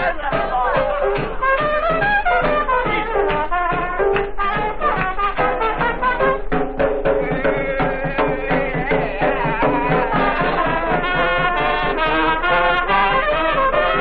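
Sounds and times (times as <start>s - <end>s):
comedy dance band playing: 0.0s - 14.0s.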